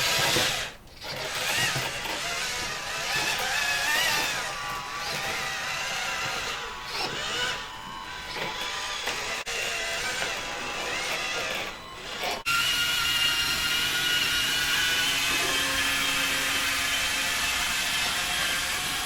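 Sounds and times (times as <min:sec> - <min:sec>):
electric motors and gears whining: 0:00.0 - 0:19.0.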